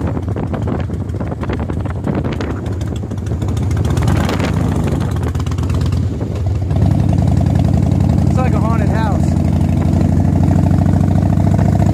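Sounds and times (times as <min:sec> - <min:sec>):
wind rushing over microphone: 0:00.0 - 0:11.6
motorcycle engine running: 0:00.0 - 0:11.9.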